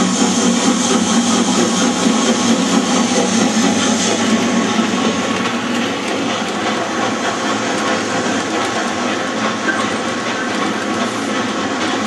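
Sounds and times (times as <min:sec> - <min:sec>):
steam train rushing: 0:00.0 - 0:12.0
wheels clattering on rail: 0:00.0 - 0:12.0.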